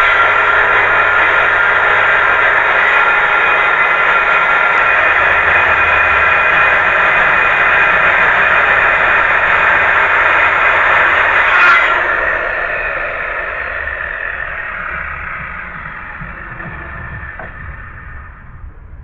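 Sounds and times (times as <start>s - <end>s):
circular saw cutting wood: 0.0s - 18.7s.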